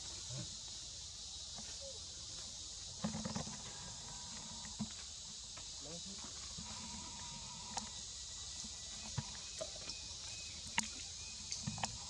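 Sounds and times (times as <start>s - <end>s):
steady high hiss: 0.0s - 11.2s.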